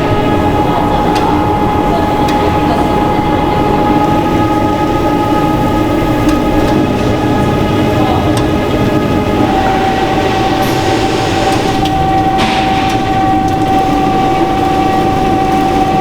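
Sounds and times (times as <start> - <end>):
factory machinery whine and rumble: 0.0 - 16.0.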